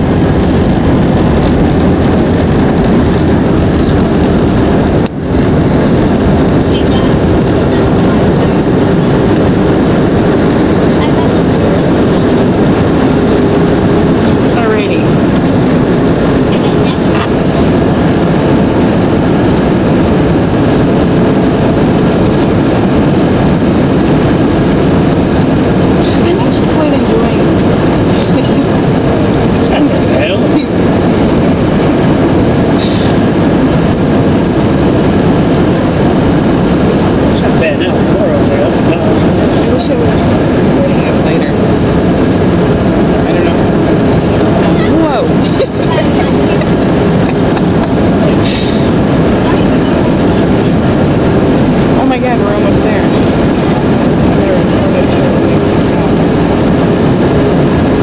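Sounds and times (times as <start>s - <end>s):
airplane cabin engine and airflow noise: 0.0s - 58.0s.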